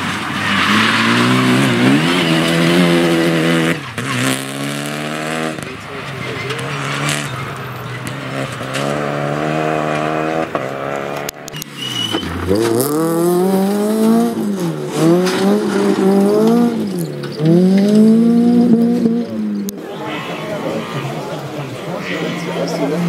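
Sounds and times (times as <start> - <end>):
car accelerating through gears: 0.0 - 23.0
rally car engine at high revs: 0.0 - 23.0.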